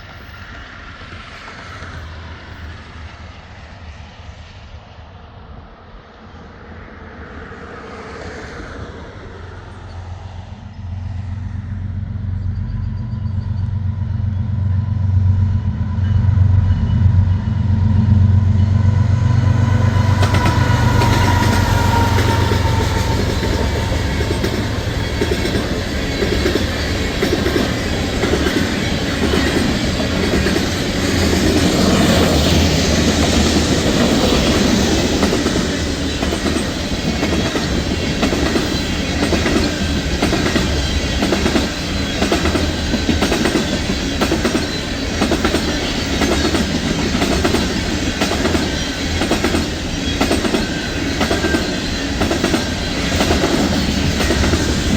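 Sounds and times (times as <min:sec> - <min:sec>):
train wheels clickety-clack: 0:00.0 - 0:04.4, 0:12.2 - 0:54.9
diesel locomotive rumble: 0:08.9 - 0:54.9.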